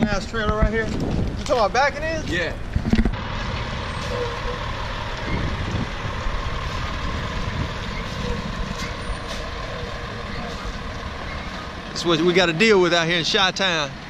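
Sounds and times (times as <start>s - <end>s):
diesel truck engine running: 2.0s - 14.0s.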